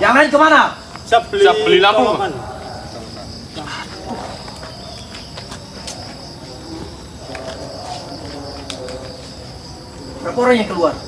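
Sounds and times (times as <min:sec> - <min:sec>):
insects trilling: 0:00.0 - 0:11.0
faint low voices murmuring: 0:00.9 - 0:11.0.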